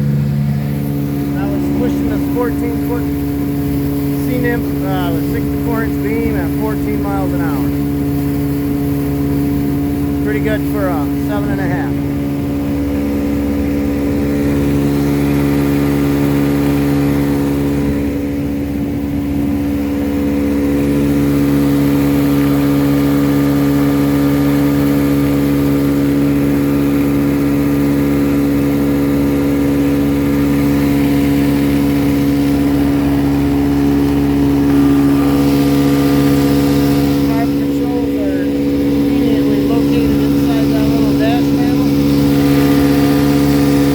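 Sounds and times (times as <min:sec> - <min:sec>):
outboard motor running: 0:00.0 - 0:43.9.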